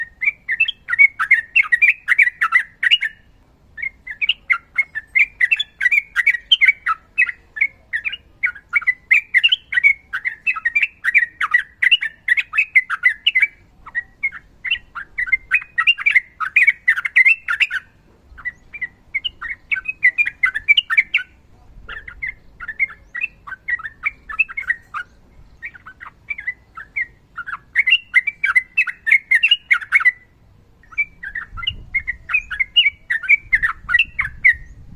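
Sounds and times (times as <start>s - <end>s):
bird singing rapid chattering: 0.0s - 34.9s.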